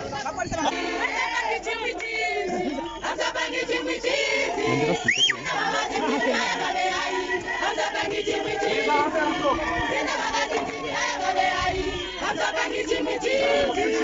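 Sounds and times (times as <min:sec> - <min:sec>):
crowd singing and chanting: 0:00.0 - 0:14.0.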